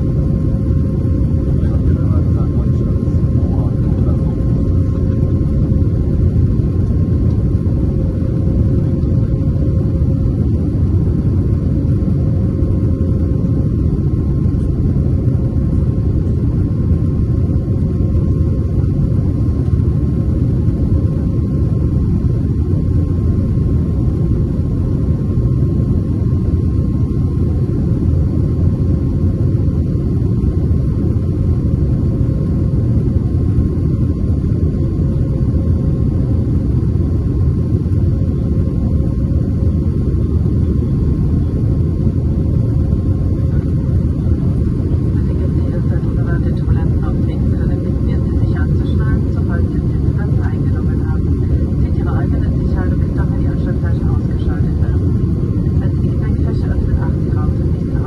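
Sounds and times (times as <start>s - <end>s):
aircraft engines and airflow rumble: 0.0s - 58.0s.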